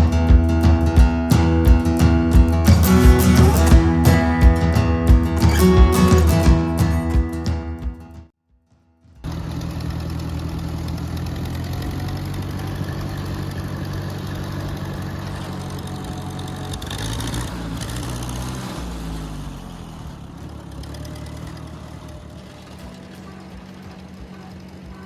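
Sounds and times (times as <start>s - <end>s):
farm vehicle engine running: 0.0s - 8.1s, 9.2s - 25.0s.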